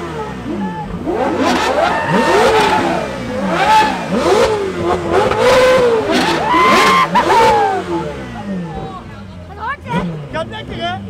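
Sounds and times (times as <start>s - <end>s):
supercar engines revving: 0.0s - 11.0s.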